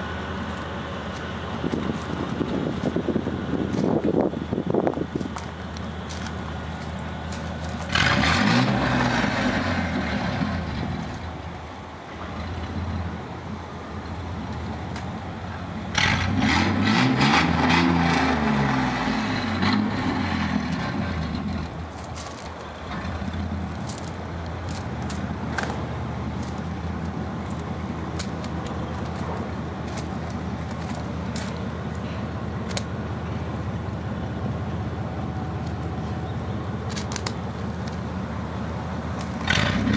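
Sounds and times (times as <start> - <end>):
pickup engine idling and revving: 0.0 - 39.9.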